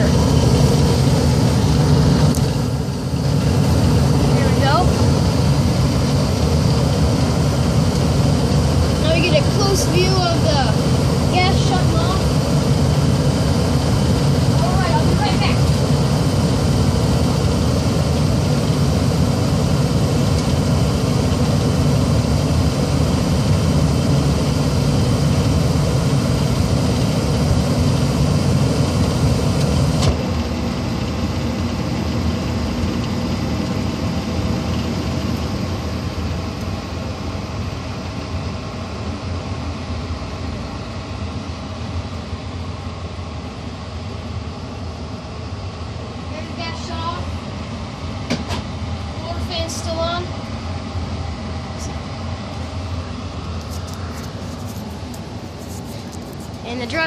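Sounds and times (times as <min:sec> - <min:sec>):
furnace fan running: 0:00.0 - 0:57.0
gas burner flame noise: 0:00.0 - 0:57.0.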